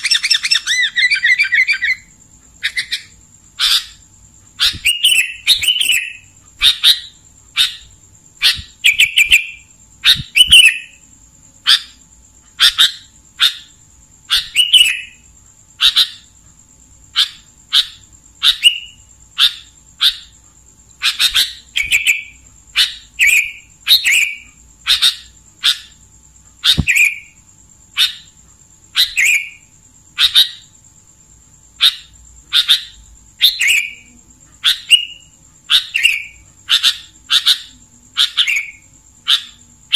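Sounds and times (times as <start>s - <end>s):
bird singing: 0.0s - 39.9s
faint high whine: 0.0s - 39.9s.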